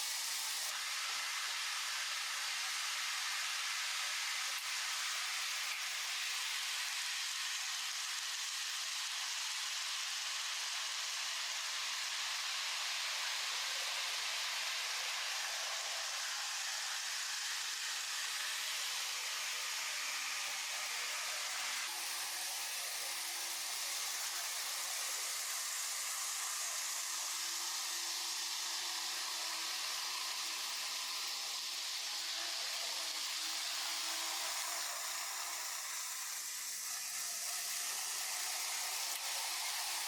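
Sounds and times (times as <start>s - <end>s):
model train wheels whirring: 0.0s - 40.0s.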